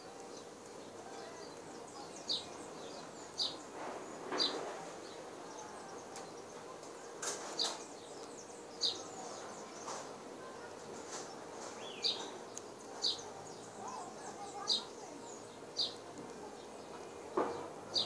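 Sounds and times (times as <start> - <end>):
bird chirping: 0.0 - 6.8, 7.4 - 16.1
steady background noise: 0.0 - 18.0.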